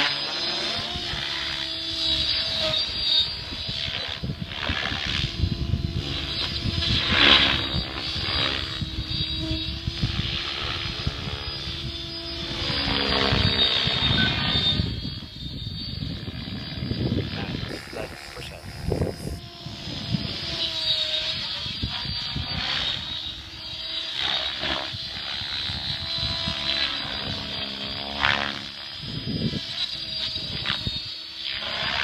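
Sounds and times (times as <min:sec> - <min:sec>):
rc helicopter rotor whine: 0:00.0 - 0:32.0.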